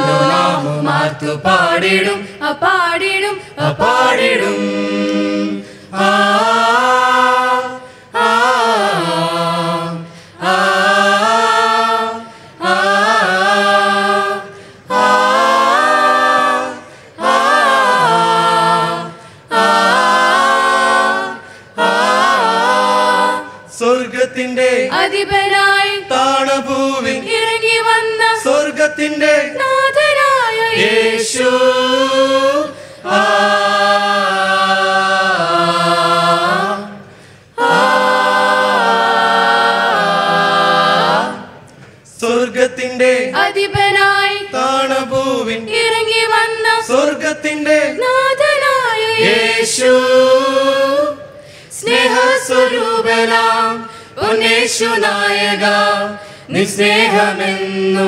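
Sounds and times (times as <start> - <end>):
a cappella group singing in harmony: 0.0 - 58.0.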